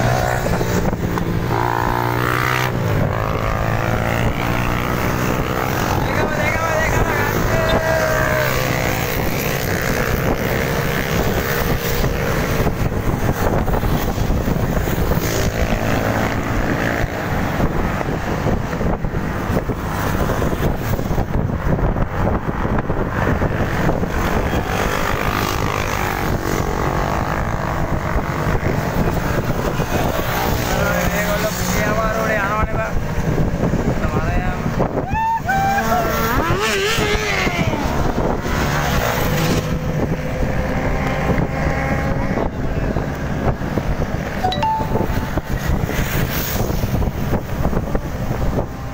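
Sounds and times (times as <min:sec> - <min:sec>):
vehicle road and engine noise: 0:00.0 - 0:48.9
wind rushing on microphone: 0:00.0 - 0:48.9.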